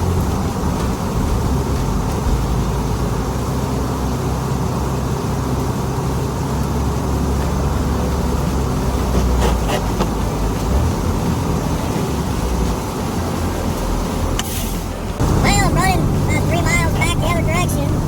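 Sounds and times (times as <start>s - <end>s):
diesel truck engine: 0.0s - 18.0s.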